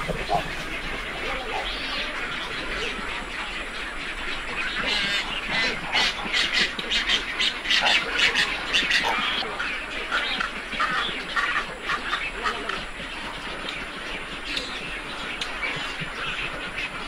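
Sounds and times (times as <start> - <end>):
egrets calling: 0.0 - 17.0.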